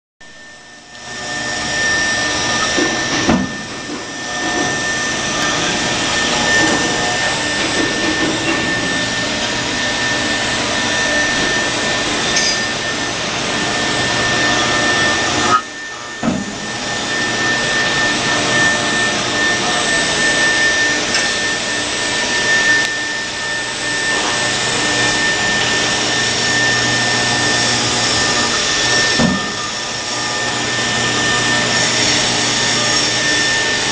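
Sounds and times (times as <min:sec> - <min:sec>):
router spindle high whine: 0:00.2 - 0:33.9
cutter hissing through foam: 0:01.0 - 0:33.9.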